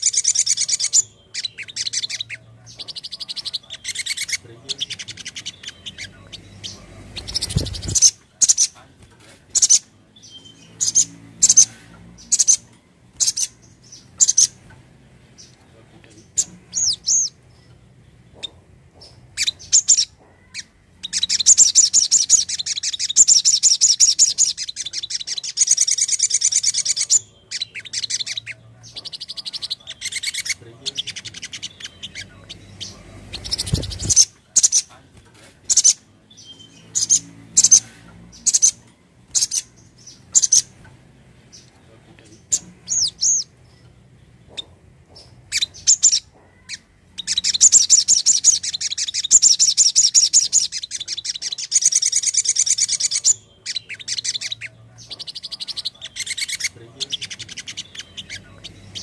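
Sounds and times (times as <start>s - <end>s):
sharp bird chirps: 0.0s - 8.8s, 9.5s - 14.6s, 18.4s - 35.0s, 35.7s - 40.8s, 41.5s - 43.9s, 44.6s - 59.0s
bird chattering trills: 0.0s - 8.9s, 9.5s - 17.7s, 18.3s - 35.0s, 35.7s - 59.0s.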